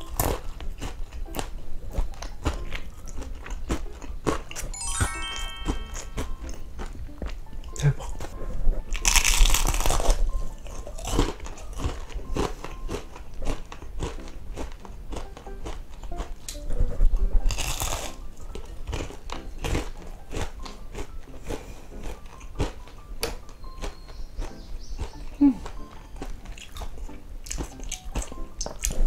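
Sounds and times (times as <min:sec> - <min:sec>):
crunchy chewing: 0:00.0 - 0:04.7, 0:06.8 - 0:29.0.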